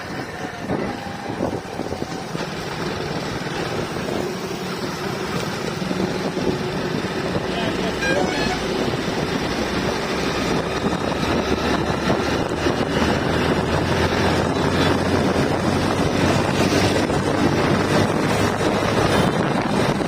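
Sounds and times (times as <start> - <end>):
vehicle engine humming: 0.0 - 20.0
wind on microphone: 0.0 - 20.0.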